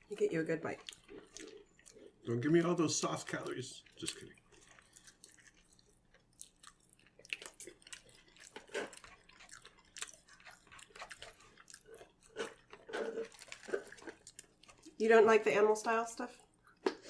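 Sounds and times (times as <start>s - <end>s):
person chewing food: 0.0s - 15.0s, 16.4s - 17.0s.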